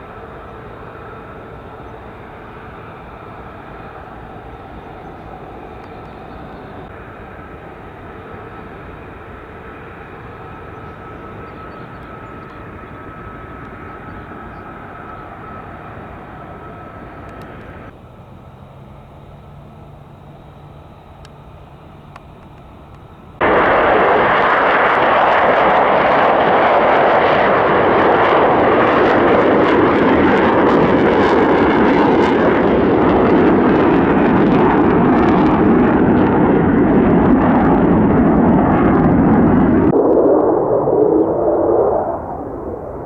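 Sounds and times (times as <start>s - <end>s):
distant jet engine rumble: 0.0s - 43.0s.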